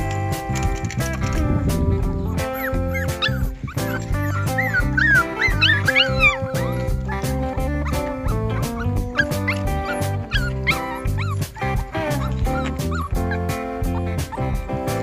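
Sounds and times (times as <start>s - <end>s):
background music with steady beat: 0.0s - 15.0s
puppies whimpering and yipping: 1.4s - 15.0s.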